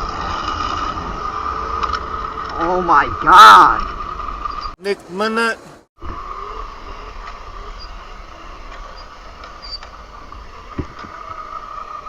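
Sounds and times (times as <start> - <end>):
electric dirt bike motor whine: 0.0 - 4.8, 6.0 - 12.0.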